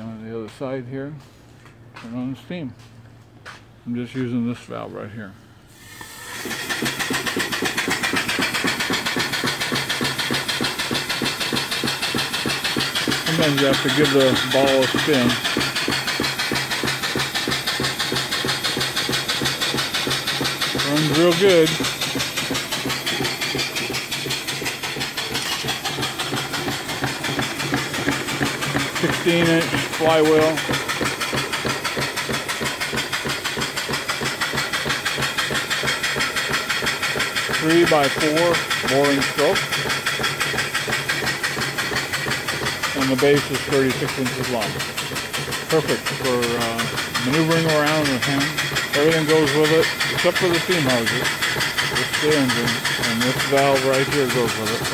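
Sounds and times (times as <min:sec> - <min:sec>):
steam engine chuffing: 0:05.7 - 0:54.9
steam hissing: 0:05.7 - 0:54.9.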